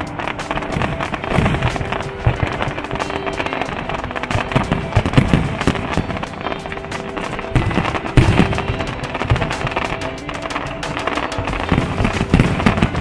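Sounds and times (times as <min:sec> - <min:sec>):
background music: 0:00.0 - 0:13.0
fireworks booming: 0:00.0 - 0:13.0
fireworks crackling and popping: 0:00.0 - 0:13.0.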